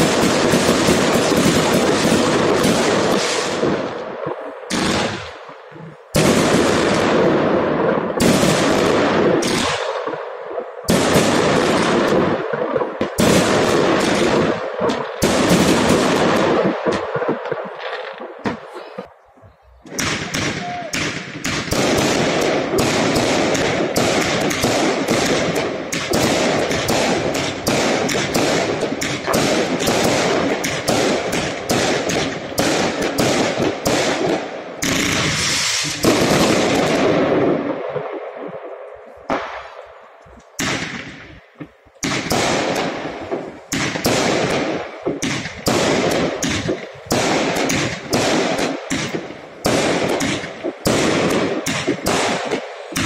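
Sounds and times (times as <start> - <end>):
fireworks launching and bursting: 0.0 - 53.0.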